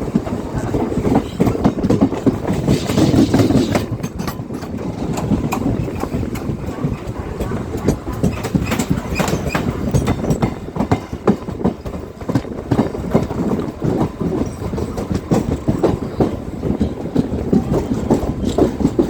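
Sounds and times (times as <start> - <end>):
train wheels rumbling on rails: 0.0 - 19.0
wheels clacking over track: 0.0 - 19.0.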